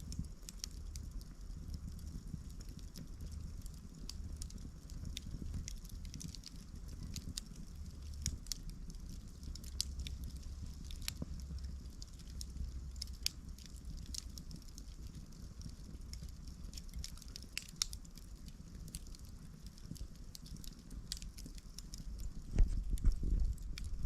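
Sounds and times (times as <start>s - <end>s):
campfire crackling and popping: 0.0s - 24.0s
low steady fire rumble: 0.0s - 24.0s.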